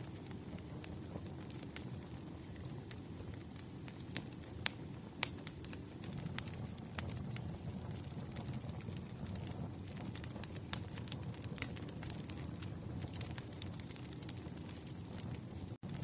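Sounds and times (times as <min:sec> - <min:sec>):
firewood burning and crackling: 0:00.0 - 0:16.0.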